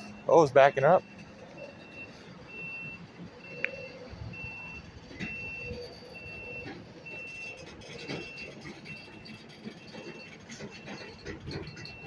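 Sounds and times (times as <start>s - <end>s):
high reversing beep: 0.0s - 11.1s
train rumbling: 0.0s - 12.0s.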